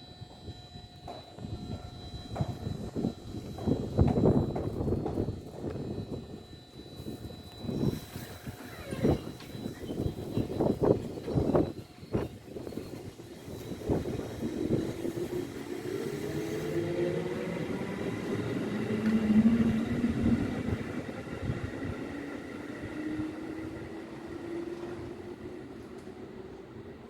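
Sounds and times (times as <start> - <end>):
electric train motors whining: 0.0 - 27.0
train running rumble: 0.3 - 22.9.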